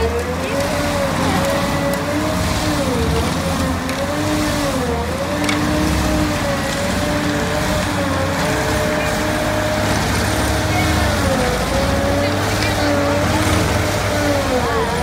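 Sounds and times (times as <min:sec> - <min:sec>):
excavator engine drone: 0:00.0 - 0:15.0
stump grinder whine: 0:00.0 - 0:15.0.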